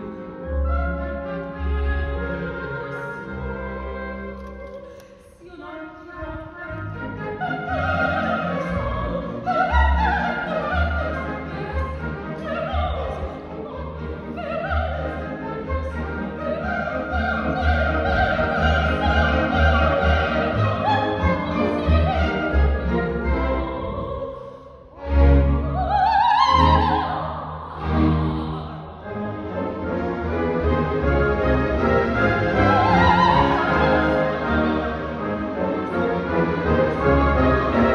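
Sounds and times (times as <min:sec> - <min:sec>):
operatic soprano singing: 0:00.0 - 0:30.4, 0:31.2 - 0:37.9
symphony orchestra playing: 0:00.0 - 0:37.9.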